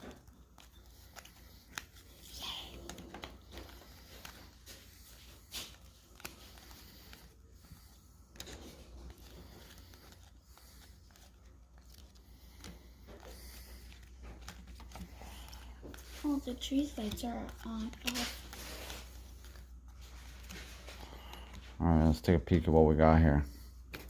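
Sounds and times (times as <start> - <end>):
cards rustling: 0.0 - 24.0
low steady hum: 0.0 - 24.0.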